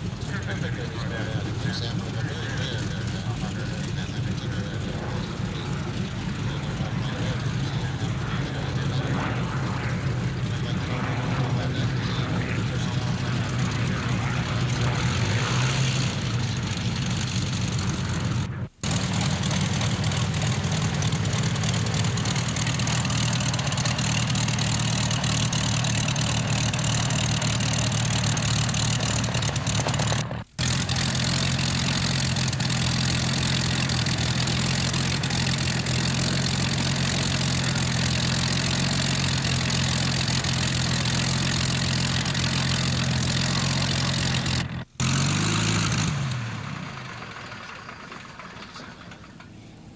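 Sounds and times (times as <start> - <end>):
aircraft engine idling: 0.0 - 49.9.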